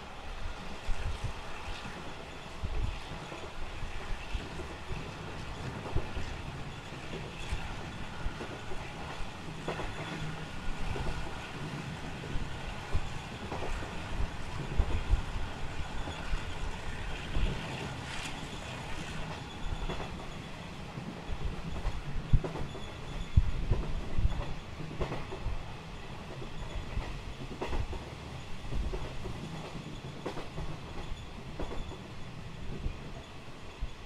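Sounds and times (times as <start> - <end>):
wheels rumbling on rail: 0.0 - 34.0
track clacks and knocks: 0.6 - 33.3.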